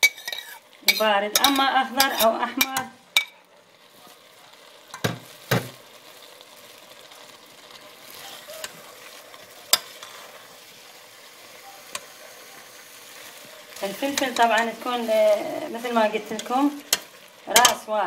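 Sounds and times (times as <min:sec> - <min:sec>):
food sizzling in a pot: 0:00.0 - 0:18.0.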